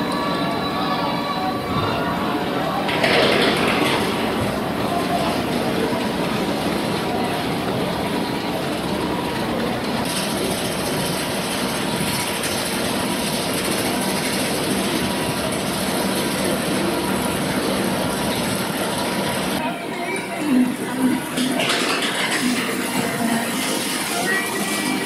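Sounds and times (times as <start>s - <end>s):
roller coaster rumble and rattle: 0.0s - 25.0s.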